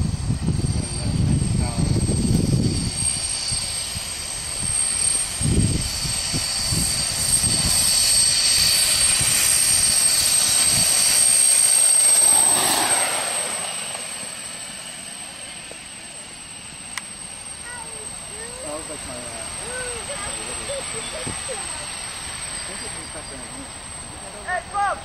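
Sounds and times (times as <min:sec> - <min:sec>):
small jet engine whining: 0:00.0 - 0:25.0.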